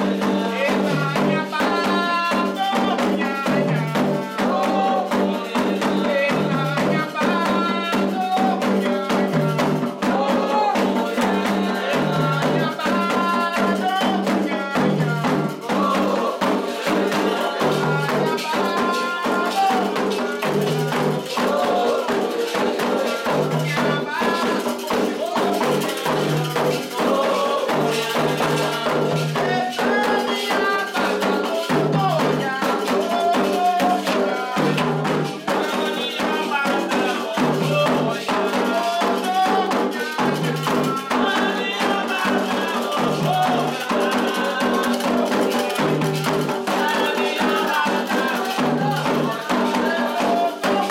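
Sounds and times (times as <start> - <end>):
hand drums rhythm: 0.0 - 50.9
voices singing: 0.0 - 50.9
shaken rattle: 0.1 - 50.9.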